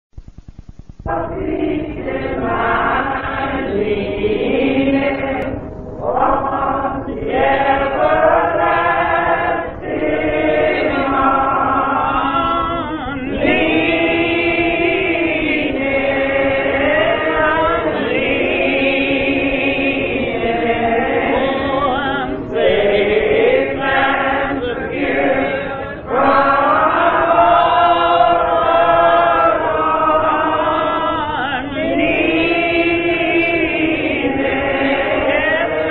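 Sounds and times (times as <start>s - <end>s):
choir singing a gospel song: 1.1s - 35.9s.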